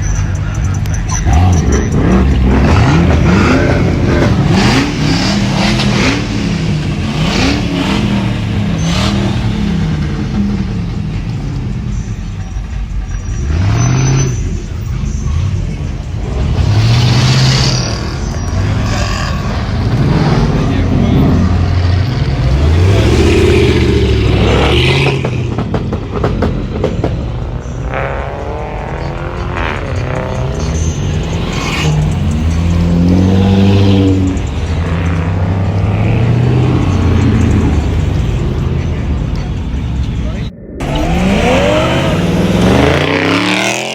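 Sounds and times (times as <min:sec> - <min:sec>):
car engine revving: 0:00.0 - 0:43.9
running cars: 0:00.0 - 0:43.9.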